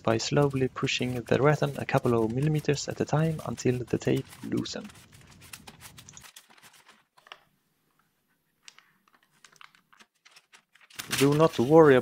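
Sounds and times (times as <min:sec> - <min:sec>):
paper crinkling: 0:00.1 - 0:07.5, 0:08.6 - 0:12.0.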